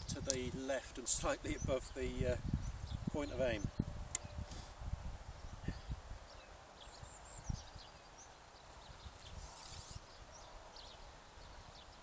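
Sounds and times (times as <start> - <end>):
songbirds chirping and whistling: 0.0 - 12.0
wind rumble on microphone: 0.0 - 12.0.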